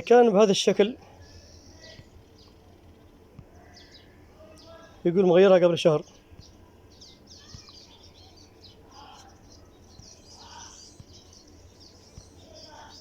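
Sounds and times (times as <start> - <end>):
birds chirping: 0.0 - 13.0
faint low hum: 0.0 - 13.0.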